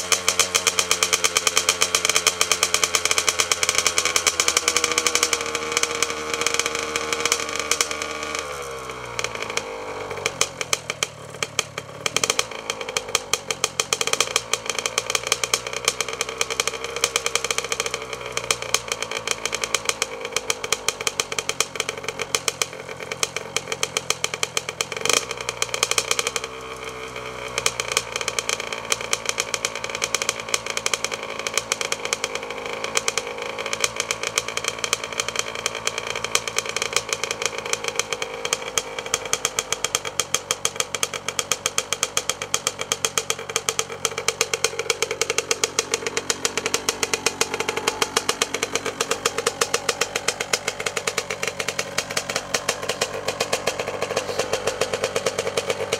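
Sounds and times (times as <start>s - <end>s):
two-stroke engine idling: 0.0s - 55.9s.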